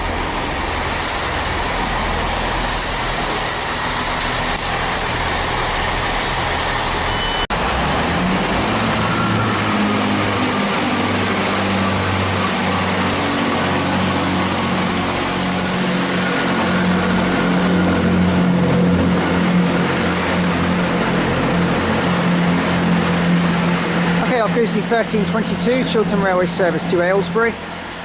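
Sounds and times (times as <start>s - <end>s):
diesel train engines: 0.0s - 28.0s.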